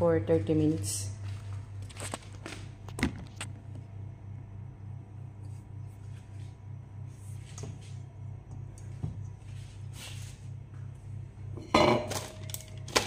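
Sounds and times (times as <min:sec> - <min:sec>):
oven humming: 0:00.0 - 0:13.0.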